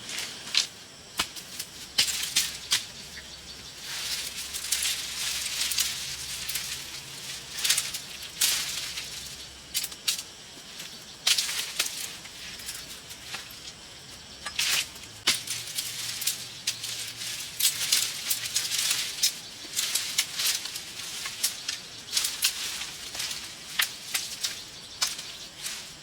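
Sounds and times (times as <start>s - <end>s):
rustling: 0.0s - 26.0s.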